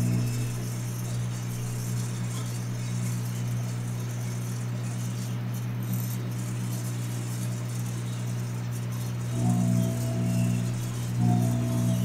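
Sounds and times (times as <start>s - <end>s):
faint rattling buzz: 0.0s - 12.0s
microwave electrical hum: 0.0s - 12.0s.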